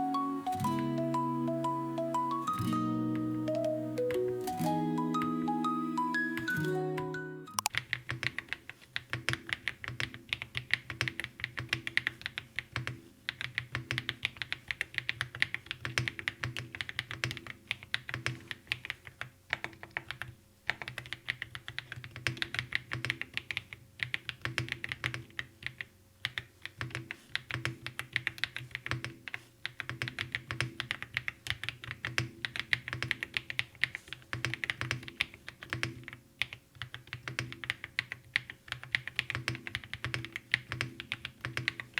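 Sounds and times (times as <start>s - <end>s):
keyboard keystroke clacks: 6.4s - 41.9s.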